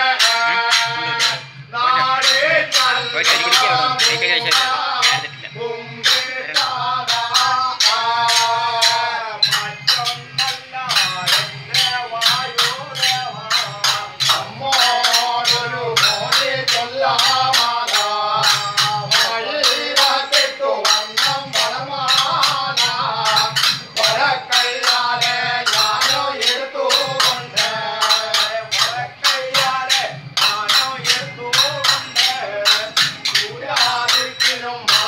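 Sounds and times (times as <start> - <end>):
men singing ritual song: 0.0 - 35.0
rhythmic percussion strokes: 0.0 - 35.0.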